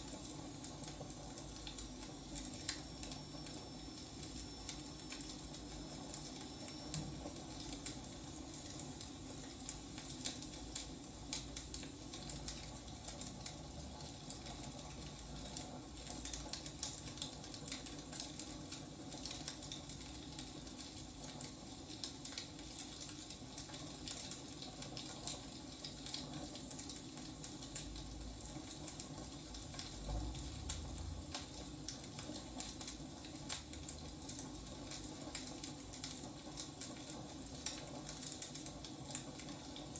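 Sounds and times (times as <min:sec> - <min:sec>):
firewood burning and crackling: 0:00.0 - 0:39.9.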